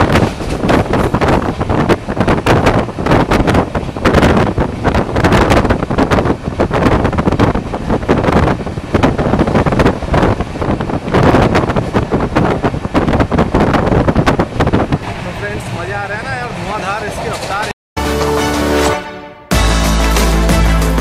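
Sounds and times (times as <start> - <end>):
wind buffeting microphone: 0.0 - 17.7
train running noise: 0.0 - 19.0.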